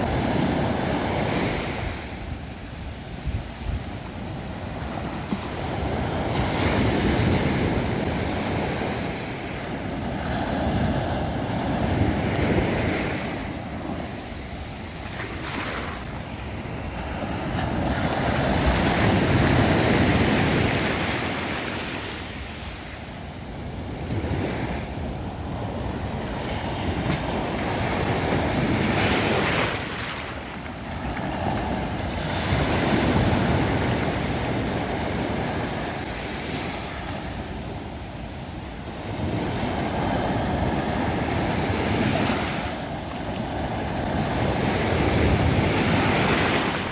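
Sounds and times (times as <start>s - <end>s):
sea waves breaking on beach: 0.0s - 46.9s
wind on microphone: 0.0s - 46.9s.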